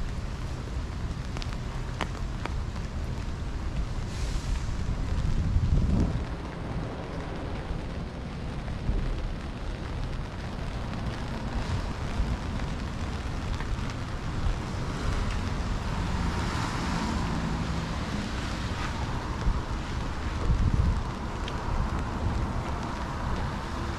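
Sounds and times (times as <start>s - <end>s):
rain hiss on wet street: 0.0s - 23.9s
vehicle passing on wet pavement: 0.0s - 23.9s
wind rumbling on microphone: 0.0s - 23.9s.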